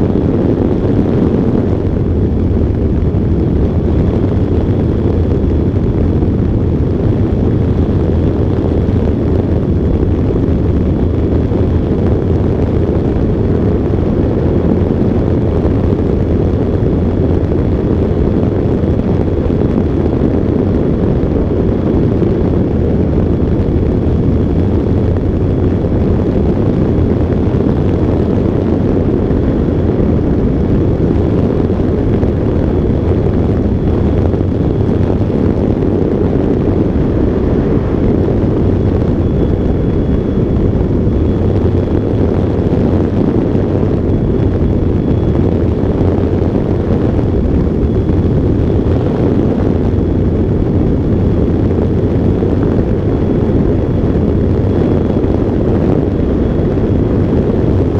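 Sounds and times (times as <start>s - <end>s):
airflow and propeller noise: 0.0s - 57.9s
faint high whine: 0.0s - 57.9s.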